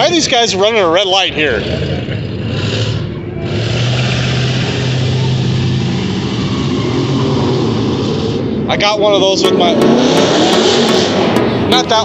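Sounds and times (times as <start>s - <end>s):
car engine running: 0.0s - 12.0s
street traffic: 0.0s - 12.0s.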